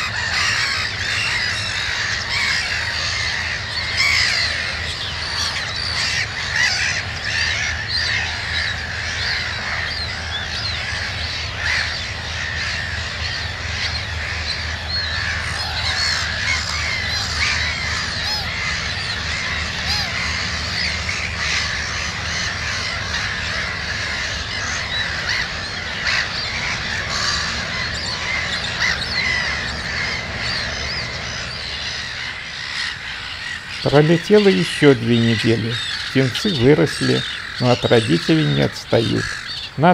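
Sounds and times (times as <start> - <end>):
gull colony calling: 0.0 - 39.9.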